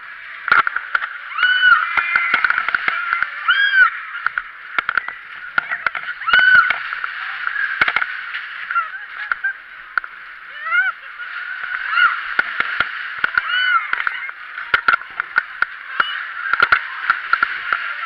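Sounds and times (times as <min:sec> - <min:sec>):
steady rushing noise: 0:00.0 - 0:18.0
riders laughing and shrieking: 0:01.2 - 0:08.0, 0:08.6 - 0:15.2, 0:15.8 - 0:18.0.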